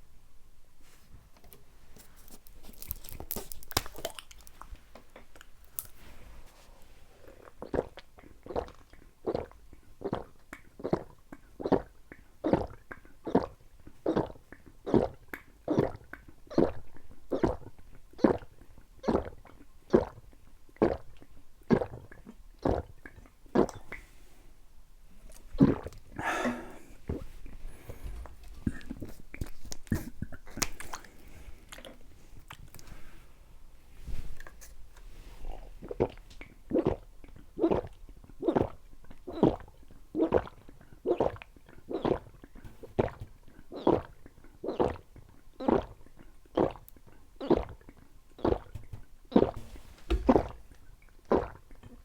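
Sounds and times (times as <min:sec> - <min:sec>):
person gulping a drink: 0:02.1 - 0:06.1, 0:07.2 - 0:24.1, 0:25.2 - 0:32.9, 0:35.4 - 0:52.0.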